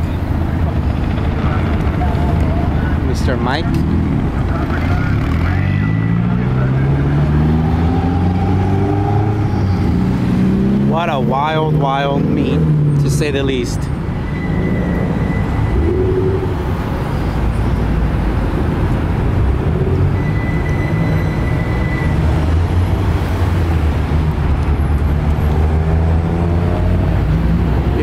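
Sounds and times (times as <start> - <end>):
car engines rumbling: 0.0 - 28.0
road traffic noise: 0.0 - 28.0.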